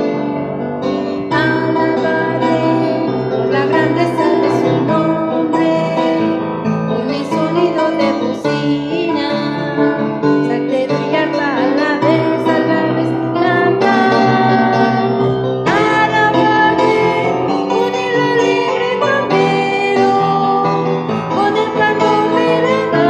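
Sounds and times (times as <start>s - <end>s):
keyboard accompaniment: 0.0s - 23.0s
woman singing: 1.0s - 23.0s.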